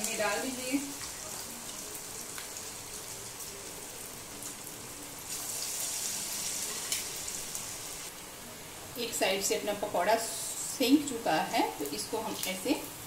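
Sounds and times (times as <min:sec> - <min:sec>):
oil crackling and sizzling: 0:00.0 - 0:13.0.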